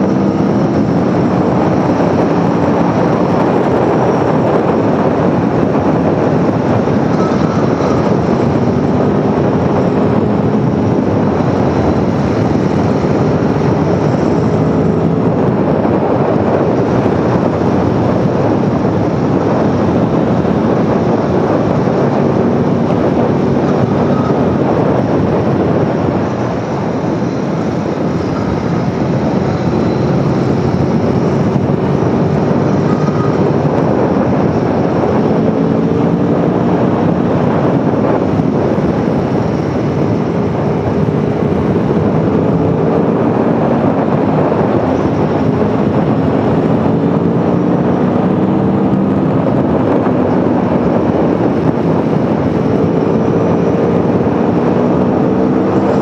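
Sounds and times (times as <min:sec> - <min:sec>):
motorcycle engine revving under load: 0:00.0 - 0:56.0
wind noise: 0:00.0 - 0:56.0.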